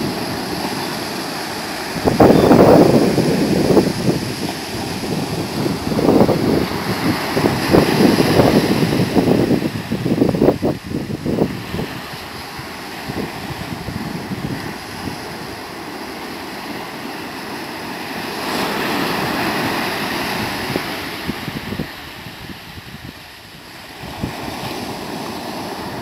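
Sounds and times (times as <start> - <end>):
wind buffeting microphone: 0.0 - 16.2, 18.1 - 26.0
surf breaking on sand: 0.0 - 26.0.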